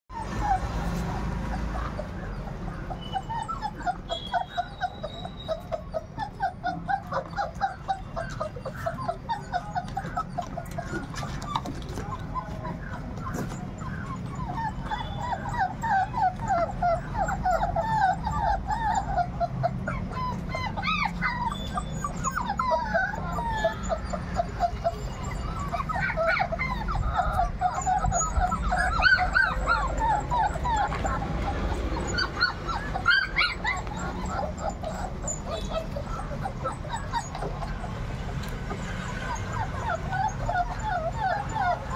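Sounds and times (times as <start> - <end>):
puppies whimpering and whining: 0.1 - 41.9
puppies yipping: 0.1 - 41.9.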